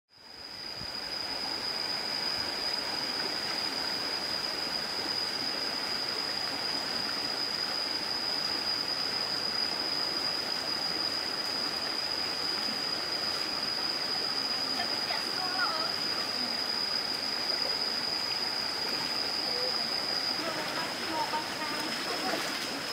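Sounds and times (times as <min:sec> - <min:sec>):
steady high-pitched whine: 0:00.1 - 0:22.9
stream water rushing: 0:00.3 - 0:22.9.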